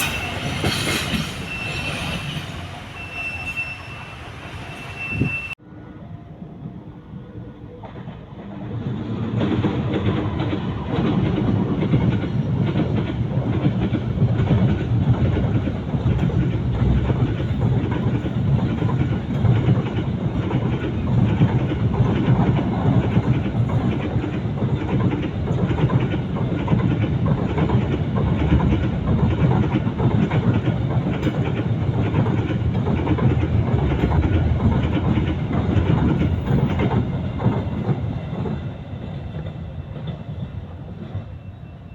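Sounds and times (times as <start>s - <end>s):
train wheels clattering over rails: 0.0s - 3.1s, 7.9s - 41.4s.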